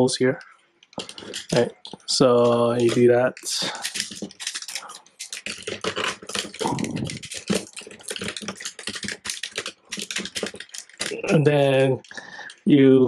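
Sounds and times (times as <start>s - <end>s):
plastic toy parts clicking: 0.8s - 12.6s.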